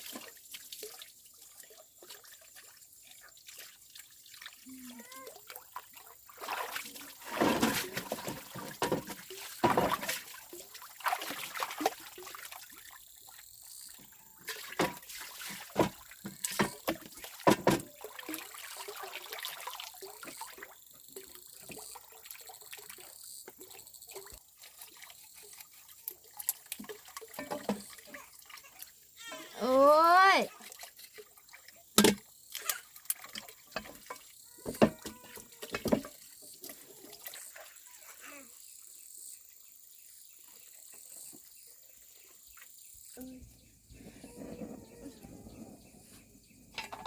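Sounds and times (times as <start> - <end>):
water pouring and splashing: 0.0 - 38.7, 40.3 - 47.0.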